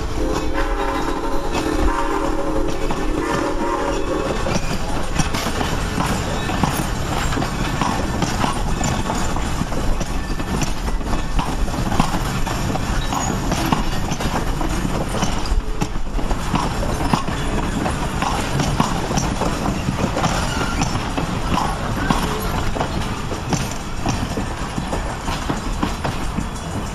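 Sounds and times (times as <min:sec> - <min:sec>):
train wheels rumbling on rail: 0:00.0 - 0:26.9
wheels clacking over rail joints: 0:00.0 - 0:26.9.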